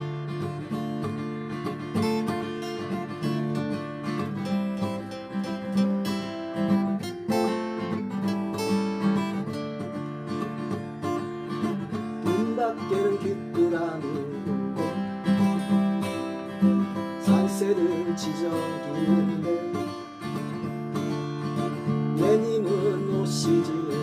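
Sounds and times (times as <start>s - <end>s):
acoustic guitars strumming chords: 0.0s - 24.0s
guitar melody line: 0.0s - 24.0s.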